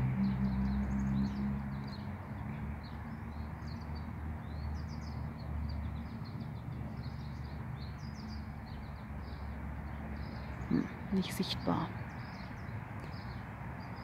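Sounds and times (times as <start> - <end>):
small birds chirping and trilling: 0.0 - 14.0.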